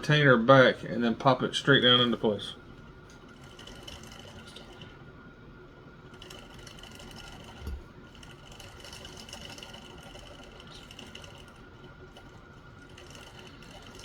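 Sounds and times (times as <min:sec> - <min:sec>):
faint machine hum: 0:00.0 - 0:14.0.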